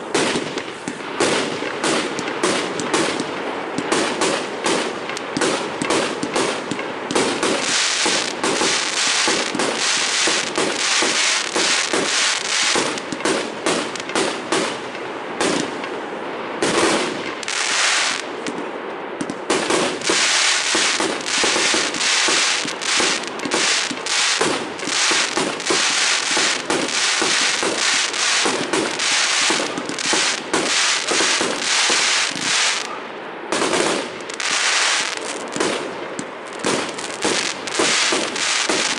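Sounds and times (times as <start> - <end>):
fireworks cracking and banging: 0.0 - 16.0, 16.6 - 38.9.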